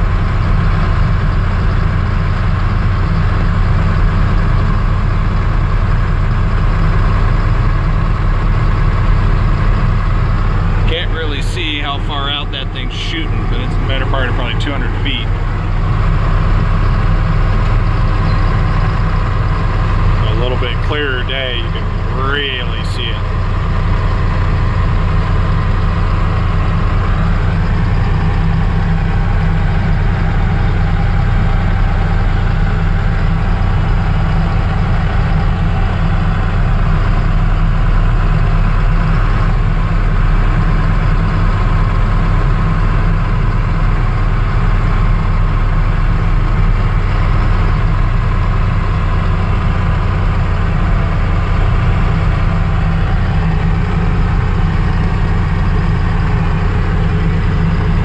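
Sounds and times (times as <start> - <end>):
heavy diesel engines droning: 0.0 - 58.0.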